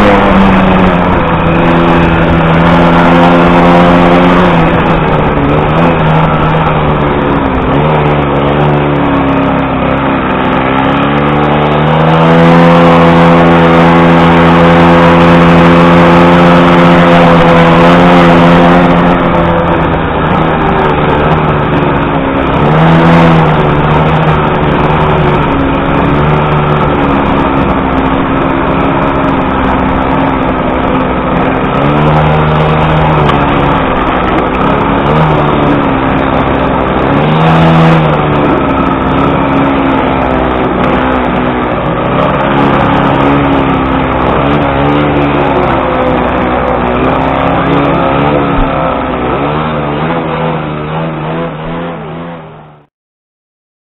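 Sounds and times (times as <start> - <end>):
moped engine revving: 0.0 - 52.9.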